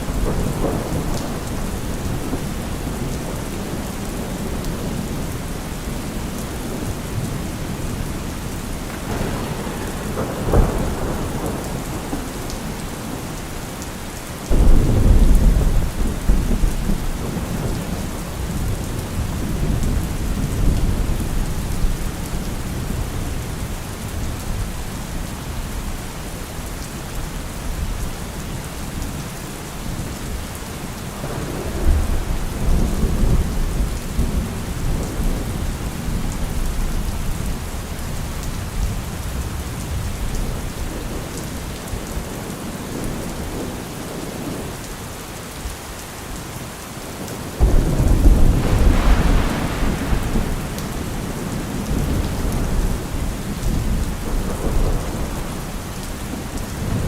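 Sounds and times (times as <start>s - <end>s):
thunder rumbling and cracking: 0.0s - 26.0s, 31.0s - 44.7s, 47.2s - 57.0s
steady rain: 0.0s - 57.0s.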